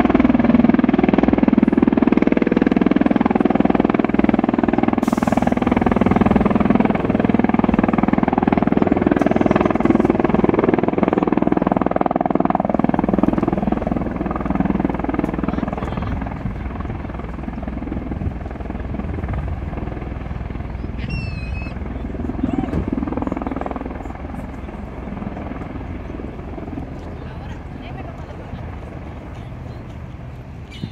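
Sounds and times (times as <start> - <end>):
pulsing rotor drone: 0.0 - 30.9.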